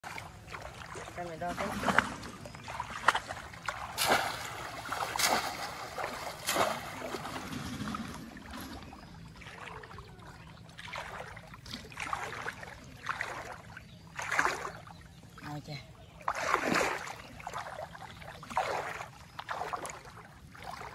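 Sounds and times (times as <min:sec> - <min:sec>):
shallow water splashing: 0:00.0 - 0:20.9.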